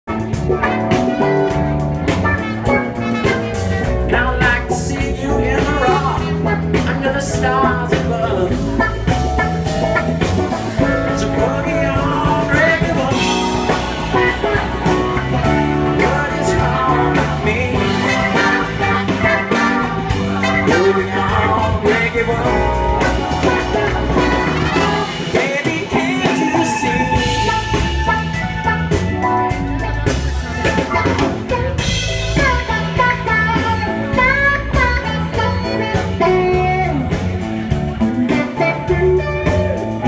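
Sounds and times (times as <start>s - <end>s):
bass guitar: 0.0s - 40.0s
electric guitars: 0.1s - 40.0s
steady drum beat: 0.1s - 40.0s
person singing: 3.8s - 9.5s, 10.8s - 29.1s, 30.7s - 40.0s.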